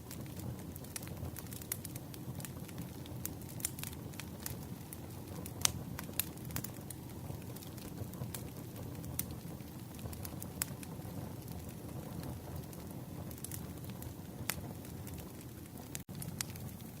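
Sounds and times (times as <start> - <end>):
campfire crackling and popping: 0.0 - 17.0
low rumble of fire: 0.0 - 17.0.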